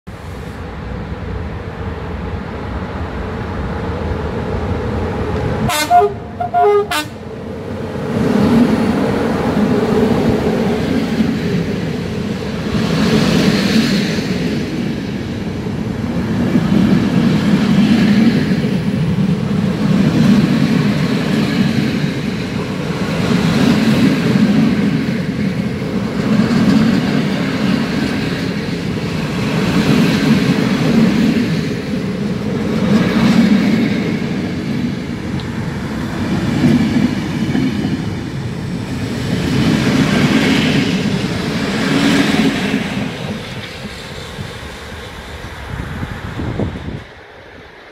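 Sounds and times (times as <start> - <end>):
train wheels rumbling on rail: 0.1 - 47.9.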